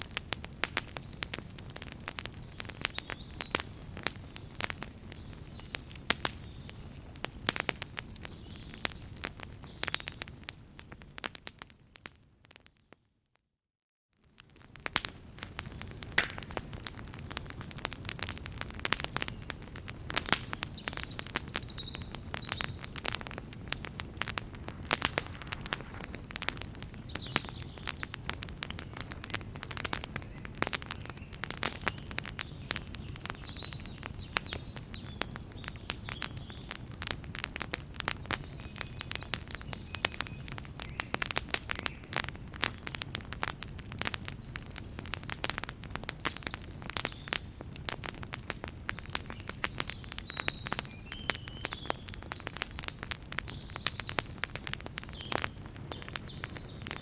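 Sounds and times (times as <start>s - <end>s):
low rumble of flames: 0.0s - 12.0s, 14.3s - 57.0s
campfire crackling and popping: 0.0s - 12.9s, 14.2s - 57.0s.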